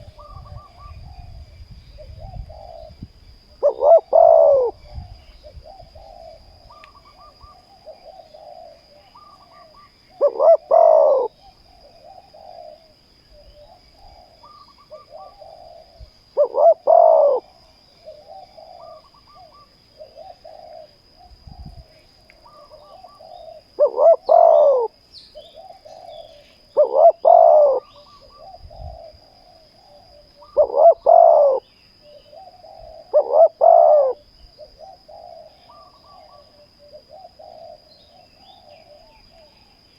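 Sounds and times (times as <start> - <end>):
faint dove cooing: 0.0 - 39.9
dove cooing loudly: 3.6 - 21.8, 22.4 - 39.6.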